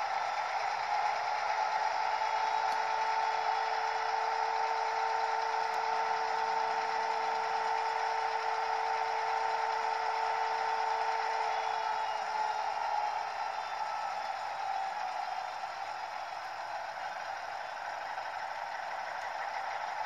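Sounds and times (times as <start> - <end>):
diesel engine sound from small speaker: 0.0 - 20.0.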